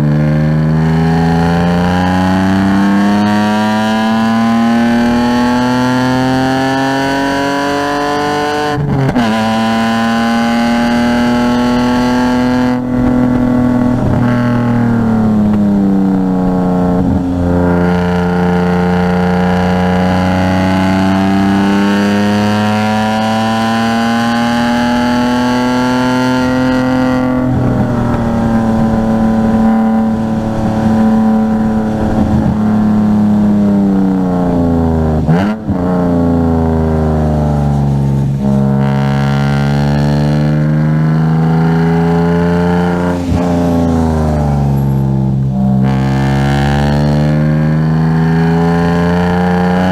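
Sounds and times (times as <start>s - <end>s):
car engine running hard: 0.0s - 49.9s.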